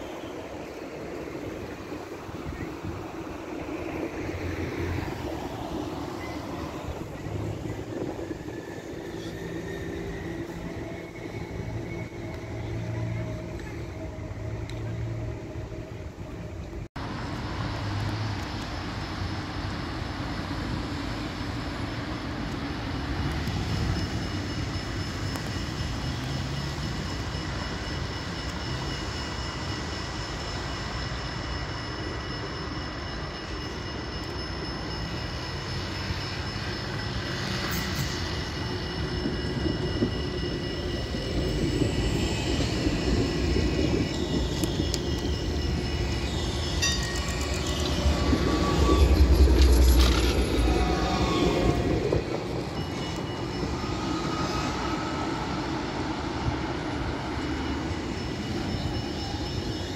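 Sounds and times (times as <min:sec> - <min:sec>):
street traffic: 0:00.0 - 0:59.9
tram whining: 0:00.0 - 0:59.9.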